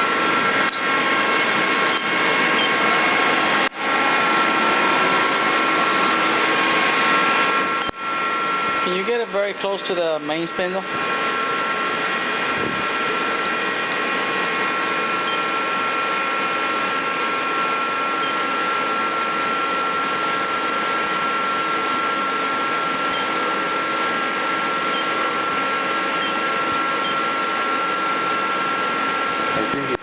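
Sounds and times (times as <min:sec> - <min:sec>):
lathe humming with high whine: 0:00.0 - 0:30.0.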